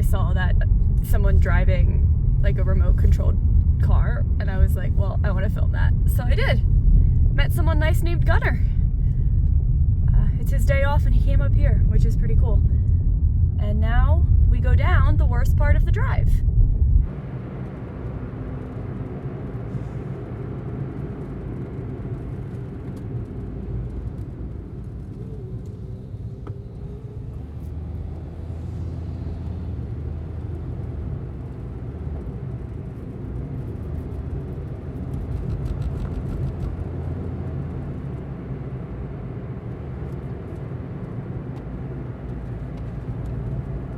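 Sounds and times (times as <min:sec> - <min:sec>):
car engine rumble: 0:00.0 - 0:43.9
road noise: 0:00.0 - 0:43.9.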